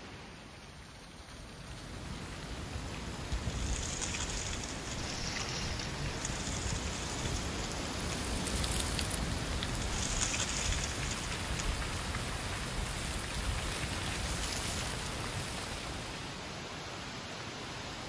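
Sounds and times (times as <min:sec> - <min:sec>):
wind blowing through trees: 0:00.0 - 0:18.0.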